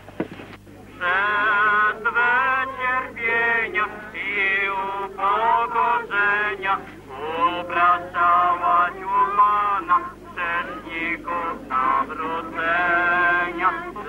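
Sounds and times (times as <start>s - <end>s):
man singing religious song: 1.0s - 14.0s.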